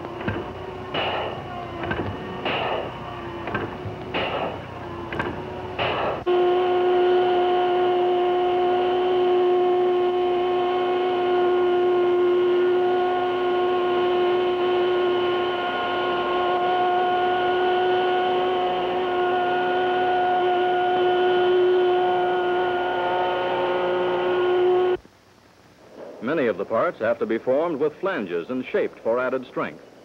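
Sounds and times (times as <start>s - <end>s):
machine spindle whining: 0.0s - 25.0s.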